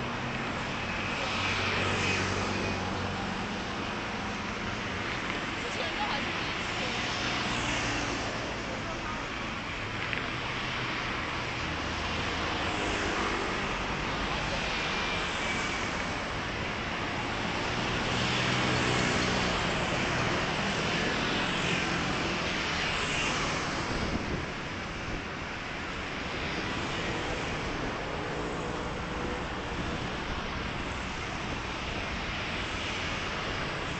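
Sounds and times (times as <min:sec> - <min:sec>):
city traffic noise: 0:00.0 - 0:33.9.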